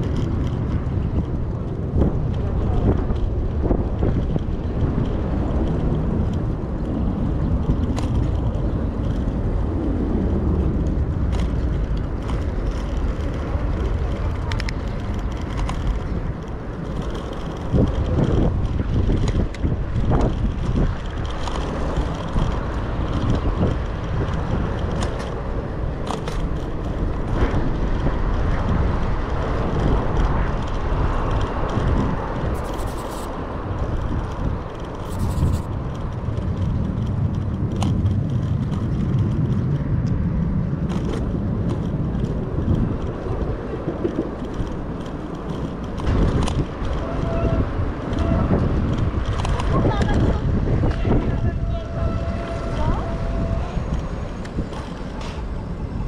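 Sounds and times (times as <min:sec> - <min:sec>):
bicycle clicks and rattles: 0:00.0 - 0:56.0
passing car traffic: 0:00.0 - 0:56.0
wind on microphone: 0:00.0 - 0:56.0.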